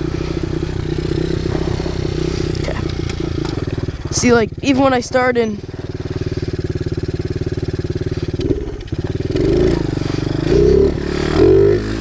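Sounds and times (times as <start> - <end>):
small motorbike engine revving: 0.0 - 12.0.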